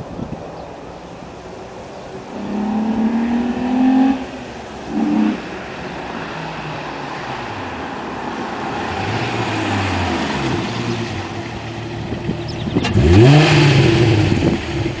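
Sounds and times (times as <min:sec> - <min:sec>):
car engine revving: 0:02.3 - 0:15.0.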